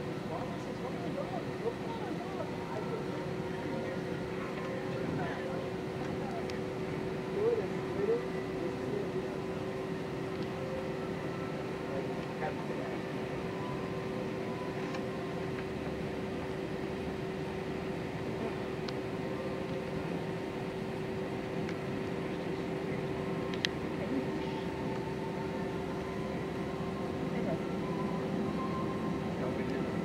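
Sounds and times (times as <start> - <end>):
airliner cabin hum: 0.0 - 30.0.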